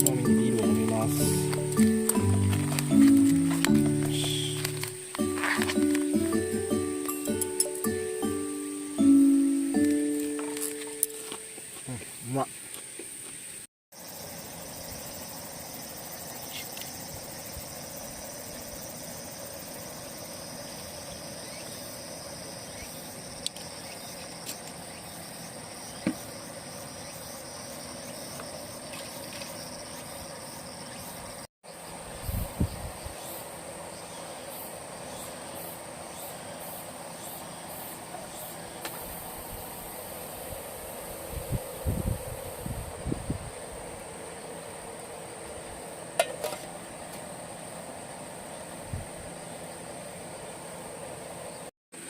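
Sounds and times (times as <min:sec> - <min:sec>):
insects trilling: 0:00.0 - 0:52.0.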